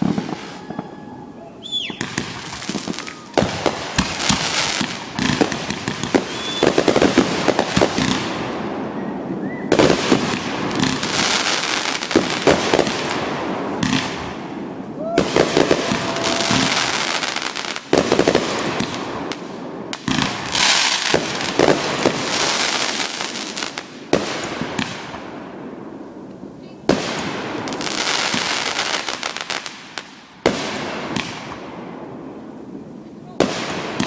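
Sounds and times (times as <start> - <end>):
firework bangs: 0.0 - 26.2, 26.8 - 34.0
firework crackling hiss: 0.0 - 34.0.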